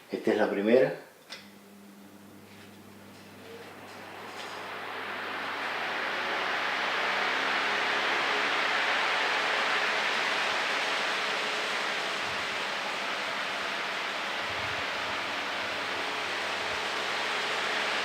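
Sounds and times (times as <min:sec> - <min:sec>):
faint hum: 0:01.3 - 0:18.0
fan air rushing: 0:01.4 - 0:18.0.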